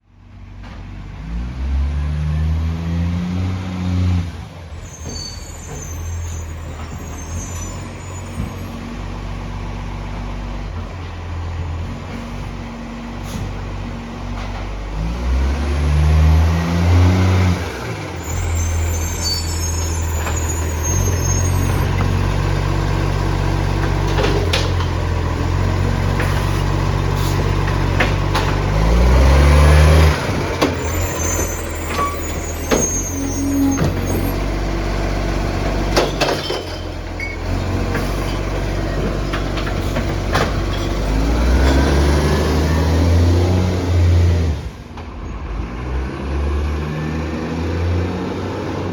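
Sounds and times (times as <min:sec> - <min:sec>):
garbage truck engine revving: 0:00.8 - 0:48.9.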